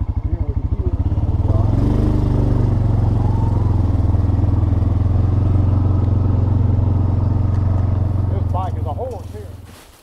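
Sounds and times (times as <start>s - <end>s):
engine running at low speed: 0.0s - 9.8s.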